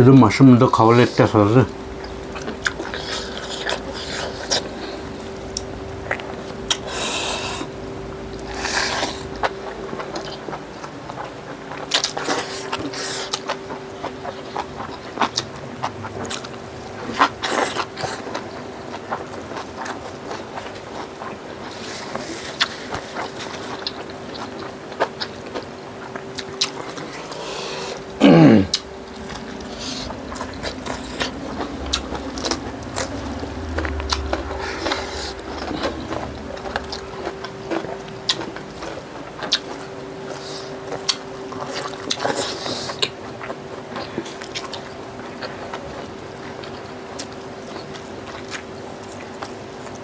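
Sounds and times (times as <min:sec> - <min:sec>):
people chewing food: 0:00.0 - 0:50.0
steady hum: 0:00.0 - 0:50.0.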